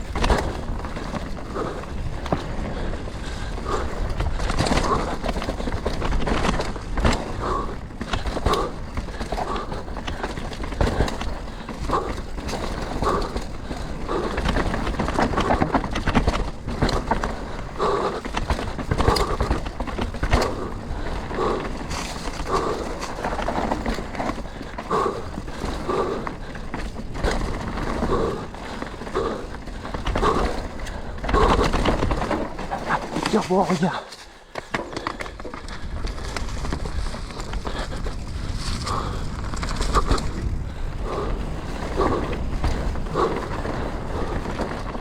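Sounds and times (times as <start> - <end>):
bike tyres rumbling over dirt: 0.0 - 45.0.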